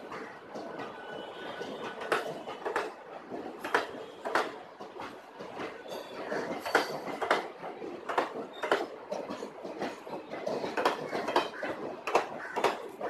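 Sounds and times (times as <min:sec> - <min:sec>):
train wheels rumbling on rail: 0:00.0 - 0:13.0
wheels knocking over rail joints: 0:00.0 - 0:13.0.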